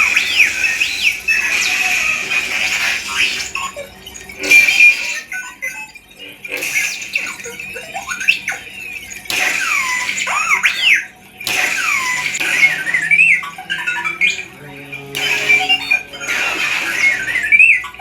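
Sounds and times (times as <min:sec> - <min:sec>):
electronic beeps and warbles: 0:00.0 - 0:18.0.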